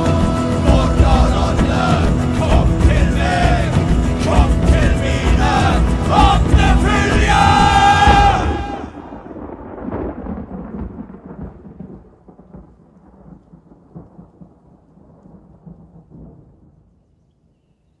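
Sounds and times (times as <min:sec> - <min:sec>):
thunder crack: 0:00.0 - 0:16.9
rolling thunder rumble: 0:00.0 - 0:17.0.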